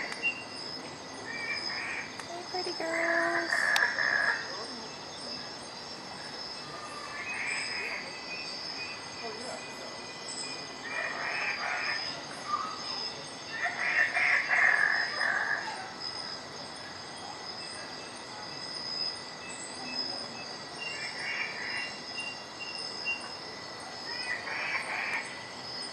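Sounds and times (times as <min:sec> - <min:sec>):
insects chirring: 0:00.0 - 0:25.9.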